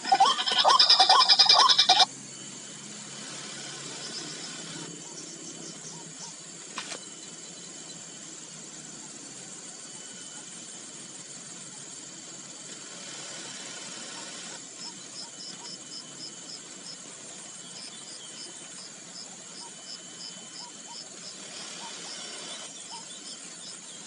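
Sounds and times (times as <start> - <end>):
faint insect hiss: 0.0 - 24.0.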